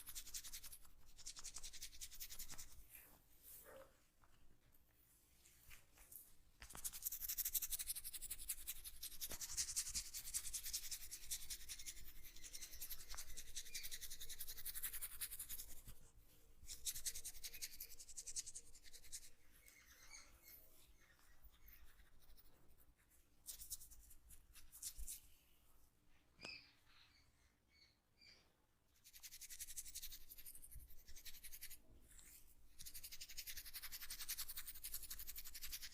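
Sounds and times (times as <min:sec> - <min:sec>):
fingers rubbing through hair: 0:00.0 - 0:03.6, 0:05.6 - 0:16.0, 0:16.6 - 0:25.3, 0:29.0 - 0:35.9.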